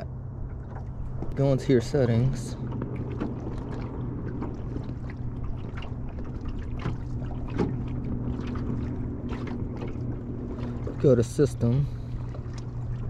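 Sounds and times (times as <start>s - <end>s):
water slapping against hull: 0.0s - 13.0s.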